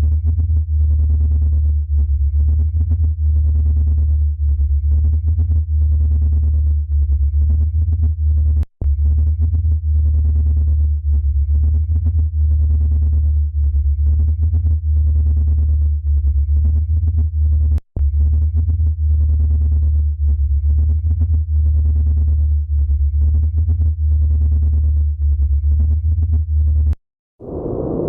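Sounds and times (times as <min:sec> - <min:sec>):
deep electronic drone: 0:00.0 - 0:28.0.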